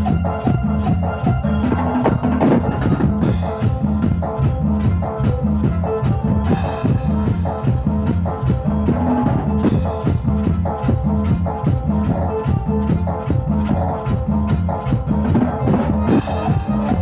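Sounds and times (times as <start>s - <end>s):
drum kit: 0.0s - 17.0s
electronic keyboards: 0.0s - 17.0s
guitar: 0.0s - 17.0s.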